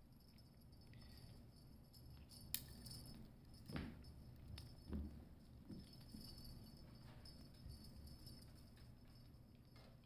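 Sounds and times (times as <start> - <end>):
light rustling of kittens playing: 0.0 - 10.0.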